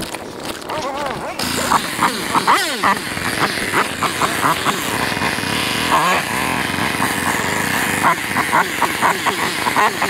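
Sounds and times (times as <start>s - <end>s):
motorcycle engine revving: 1.2s - 10.0s.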